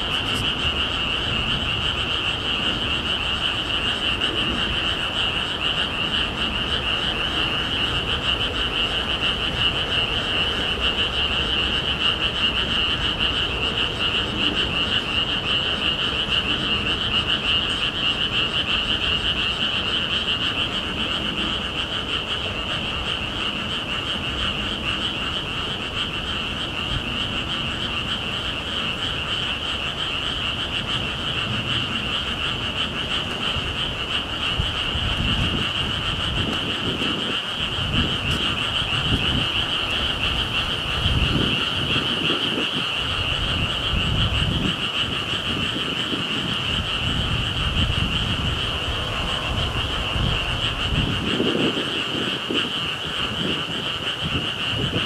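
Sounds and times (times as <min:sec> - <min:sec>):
chorus of frogs trilling: 0:00.0 - 0:55.0
wind gusting on microphone: 0:00.0 - 0:55.0.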